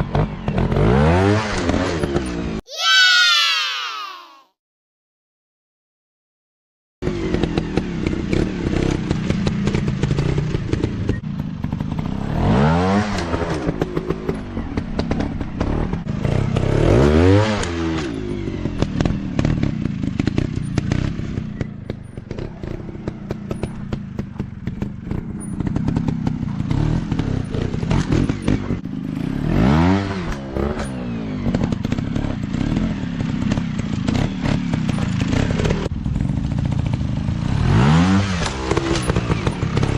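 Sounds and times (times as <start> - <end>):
dirt bike engines revving: 7.1 - 39.9.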